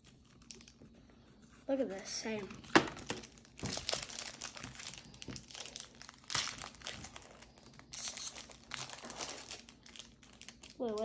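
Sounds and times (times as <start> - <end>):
foil wrapper tearing and crinkling: 0.0 - 0.8, 3.0 - 11.0.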